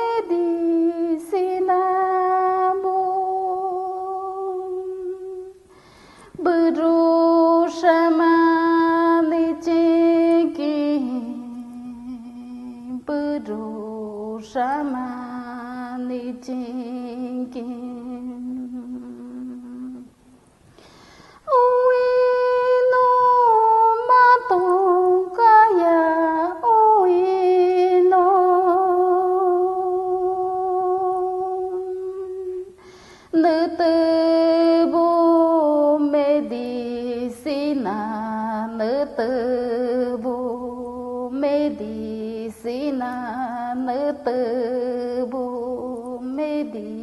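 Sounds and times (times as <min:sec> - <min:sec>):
woman singing chant: 0:00.0 - 0:05.7, 0:06.3 - 0:20.2, 0:21.4 - 0:47.0.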